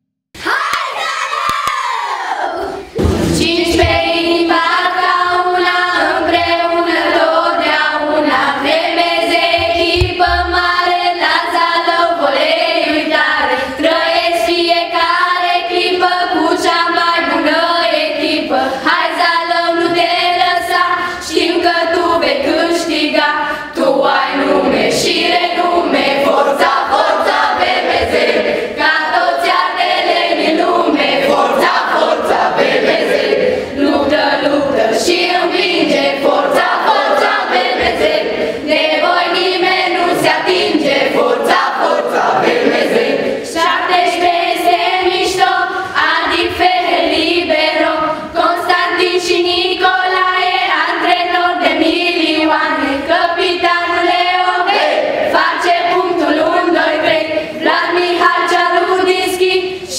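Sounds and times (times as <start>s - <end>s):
children singing unaccompanied: 0.4s - 59.9s.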